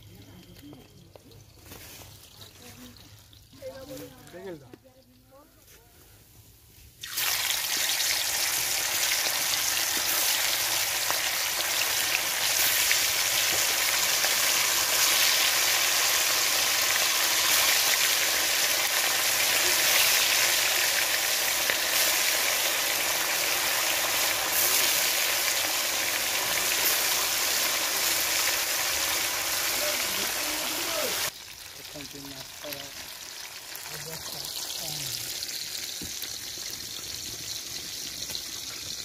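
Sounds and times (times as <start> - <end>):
oil crackles: 0.4 - 5.6, 7.0 - 39.0
fish sizzling in hot oil: 1.4 - 5.3, 6.4 - 39.0.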